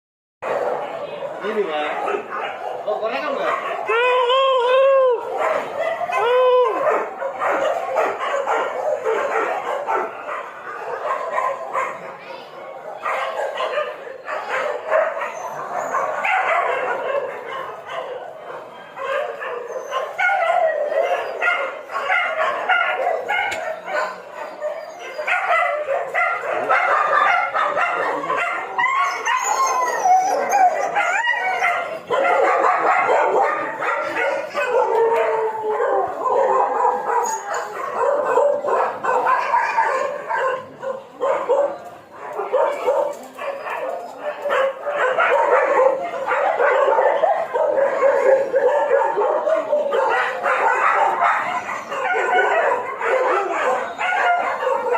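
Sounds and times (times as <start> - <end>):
dog barking and howling: 0.4 - 54.9.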